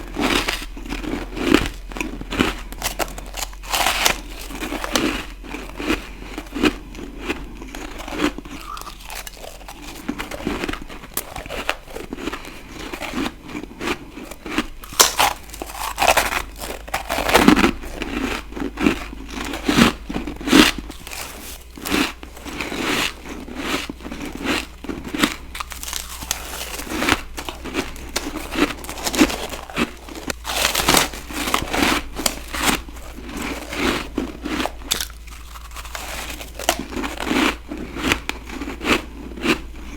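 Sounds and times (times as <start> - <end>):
chewing: 0.0 - 39.9
ice crunching: 0.0 - 39.9.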